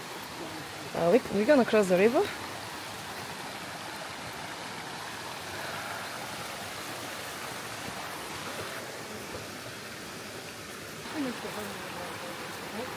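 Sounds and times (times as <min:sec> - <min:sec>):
stream flowing over stones: 0:00.0 - 0:12.9.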